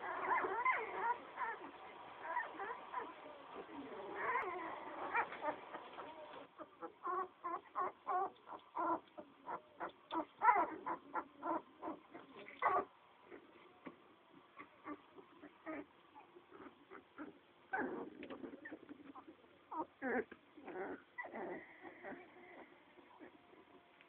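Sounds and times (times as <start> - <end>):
puppies squeaking and whimpering: 0.0 - 13.4, 14.6 - 23.8.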